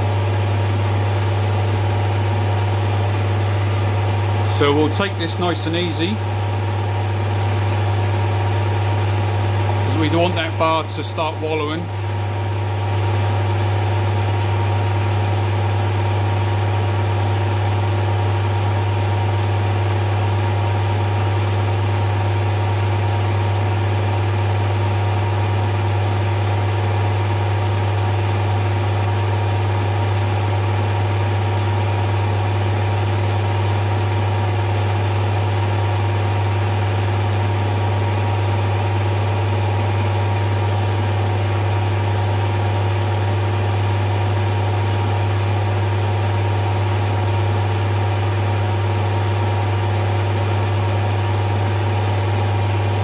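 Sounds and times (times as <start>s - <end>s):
metal lathe humming: 0.0s - 53.0s.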